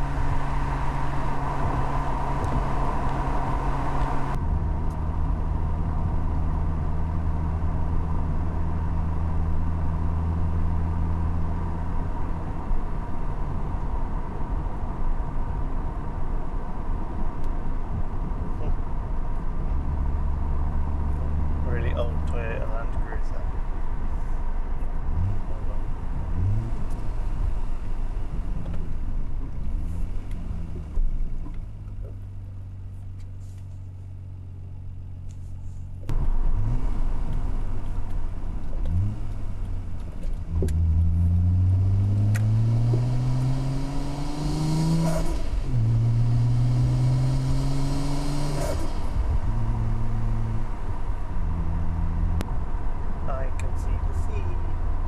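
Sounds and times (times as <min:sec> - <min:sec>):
car engine idling and accelerating: 0:00.0 - 0:55.0.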